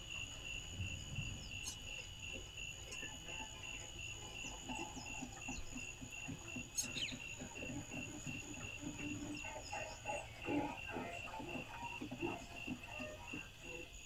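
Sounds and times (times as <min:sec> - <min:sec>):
continuous high whine: 0:00.0 - 0:14.0
crickets chirping: 0:00.0 - 0:14.0
low pulsing animal calls: 0:00.0 - 0:14.0.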